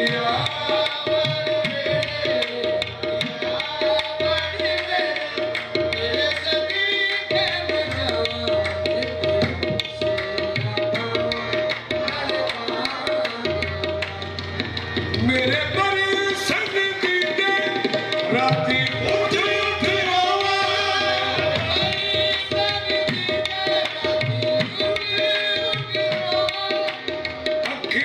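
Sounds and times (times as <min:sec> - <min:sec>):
harmonium melody: 0:00.0 - 0:28.0
tabla drumming: 0:00.0 - 0:28.0.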